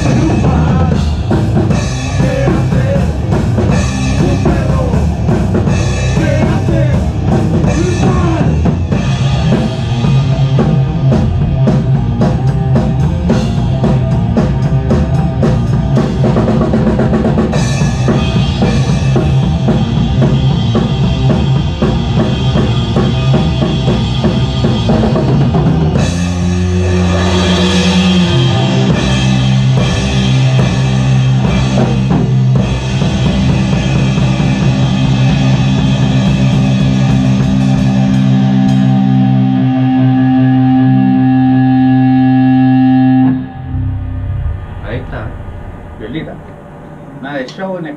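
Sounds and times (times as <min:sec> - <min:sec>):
heavy rock band playing: 0:00.0 - 0:47.9
pounding drum kit: 0:00.0 - 0:47.9.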